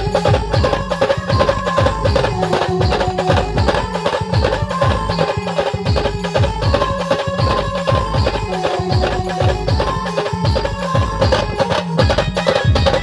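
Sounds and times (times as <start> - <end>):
band music: 0.0 - 13.0
held melody line: 0.0 - 13.0.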